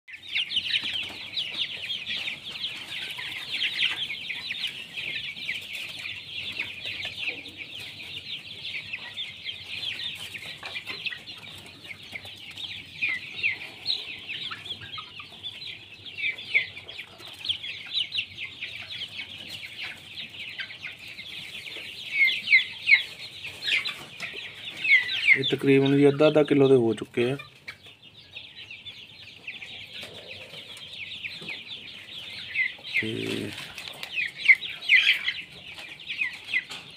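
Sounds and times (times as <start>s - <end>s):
chicks cheeping: 0.1s - 36.9s.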